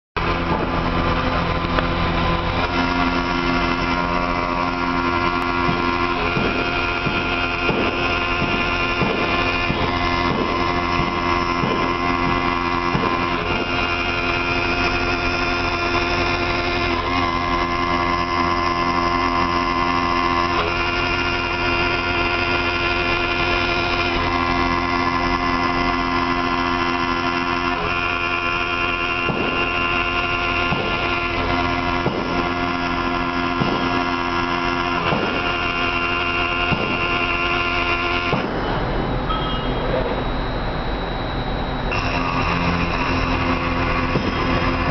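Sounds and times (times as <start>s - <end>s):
milling machine whine: 0.2s - 44.9s.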